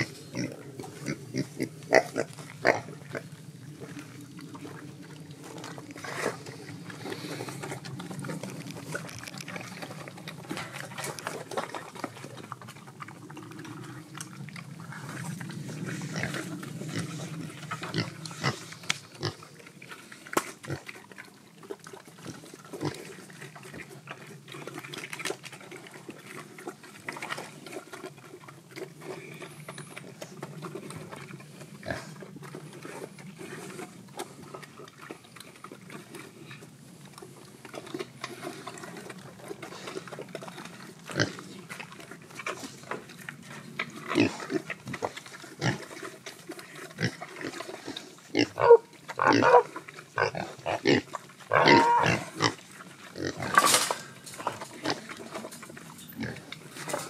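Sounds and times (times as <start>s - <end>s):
pigs grunting: 0.0s - 57.0s.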